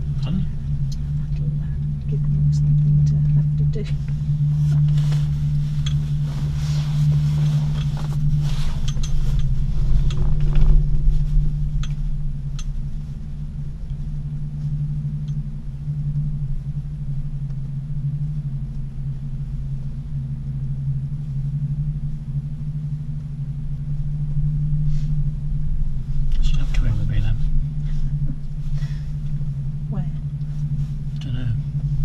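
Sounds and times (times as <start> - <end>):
cable car hum and rumble: 0.0 - 32.0.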